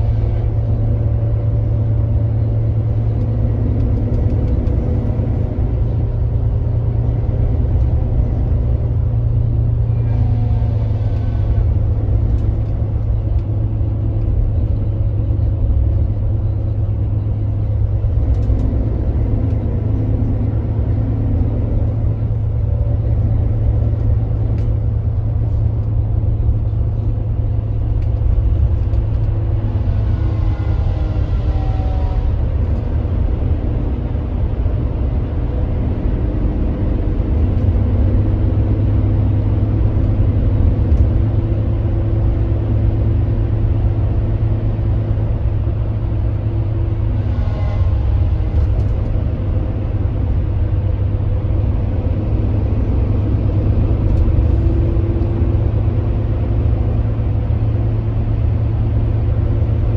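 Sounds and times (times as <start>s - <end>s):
coach diesel engine running: 0.0s - 59.9s
road noise: 0.0s - 59.9s.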